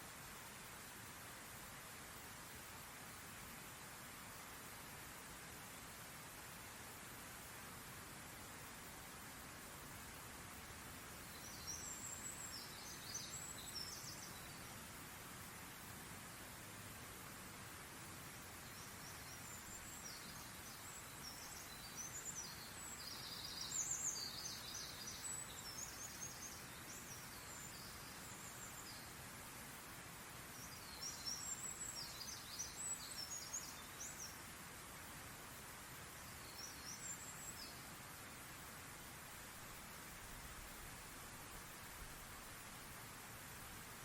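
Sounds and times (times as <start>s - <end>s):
background hiss: 0.0s - 44.0s.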